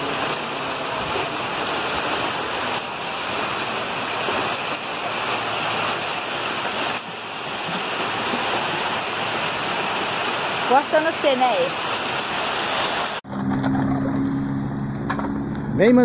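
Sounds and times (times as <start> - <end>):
floodwater rushing down street: 0.0 - 14.5.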